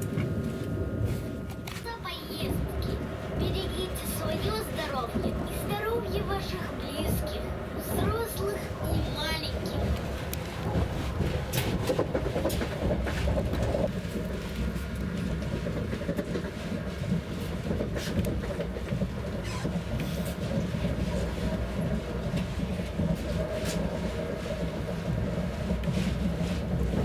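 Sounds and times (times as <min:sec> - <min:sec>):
train interior rumble: 0:00.0 - 0:27.0
wheels clicking on track: 0:01.5 - 0:27.0.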